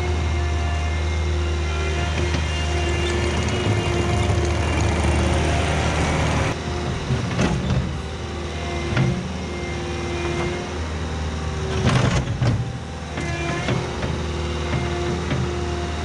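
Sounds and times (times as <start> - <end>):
loader diesel engine running: 0.0 - 16.0.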